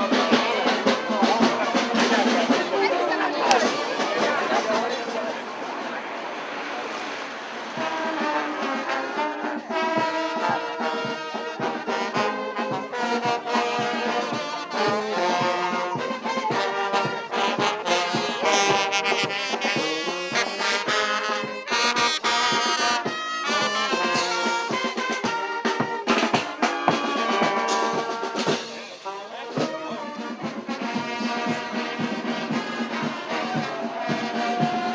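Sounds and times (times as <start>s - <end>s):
brass band playing lively tune: 0.0s - 34.9s.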